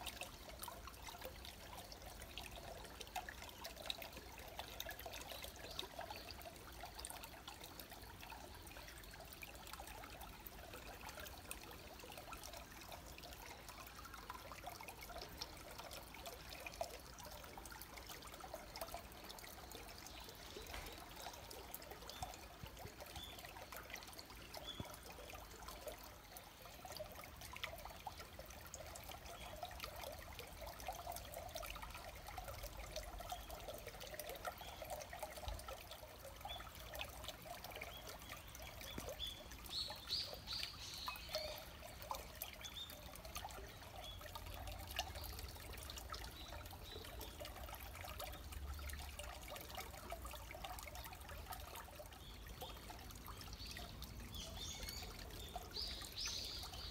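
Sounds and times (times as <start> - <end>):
stream babbling over rocks: 0.0 - 56.9.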